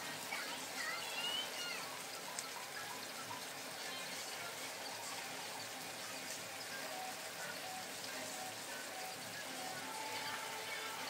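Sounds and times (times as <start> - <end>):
chicken sizzling in a wok: 0.0 - 11.0.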